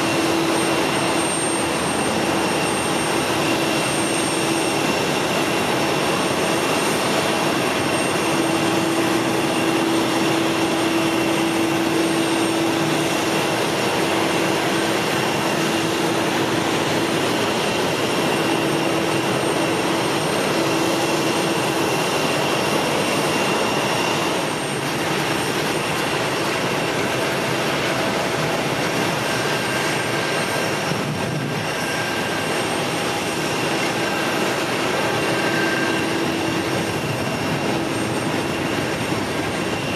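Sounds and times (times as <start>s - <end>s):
jet engine whine: 0.0s - 39.9s
jet engines rushing: 0.0s - 39.9s.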